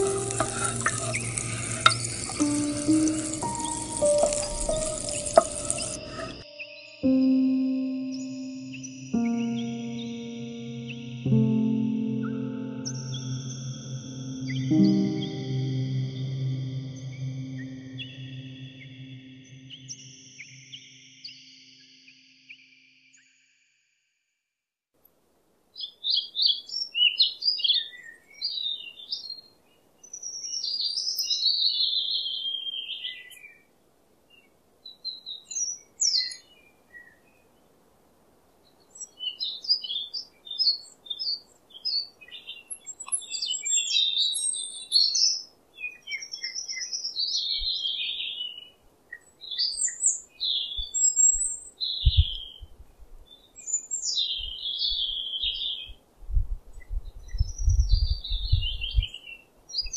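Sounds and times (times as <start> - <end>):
songbirds chirping and trilling: 0.0 - 23.5, 25.8 - 37.8, 38.5 - 56.0, 56.8 - 59.9.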